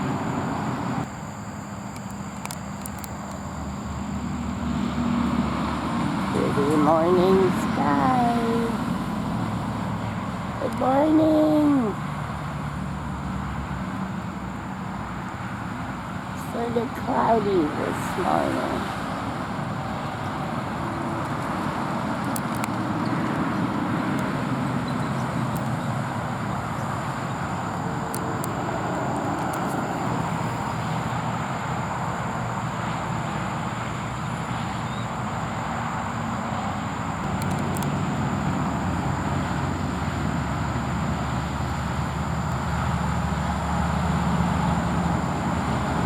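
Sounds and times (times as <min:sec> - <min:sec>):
road traffic noise: 0:00.0 - 0:46.0.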